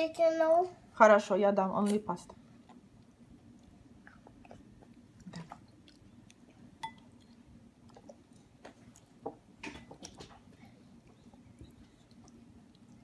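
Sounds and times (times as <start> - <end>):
child chewing: 2.4 - 13.0.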